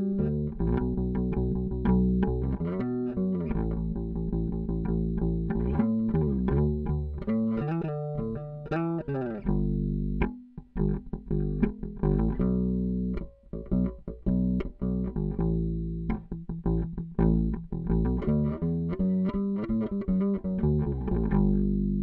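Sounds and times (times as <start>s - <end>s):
plucked bass guitar riff: 0.0s - 22.0s.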